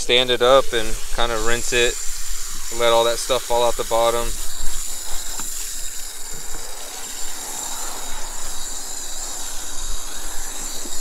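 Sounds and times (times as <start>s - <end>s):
hose nozzle spraying water: 0.0s - 11.0s.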